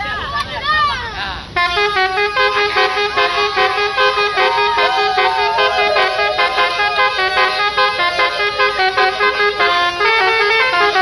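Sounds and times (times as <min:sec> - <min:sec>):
musical air horn playing a tune: 0:01.6 - 0:11.0.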